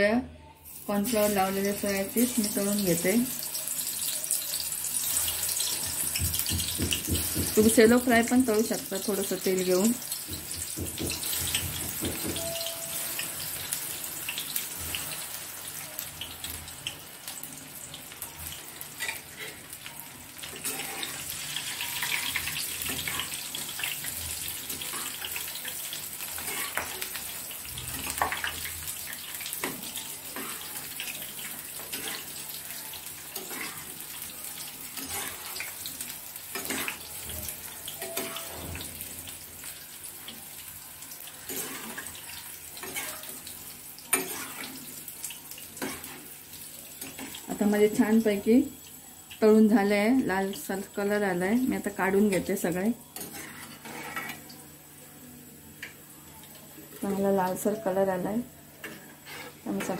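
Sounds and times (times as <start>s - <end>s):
deep-frying crackling sizzle: 0.6s - 59.9s.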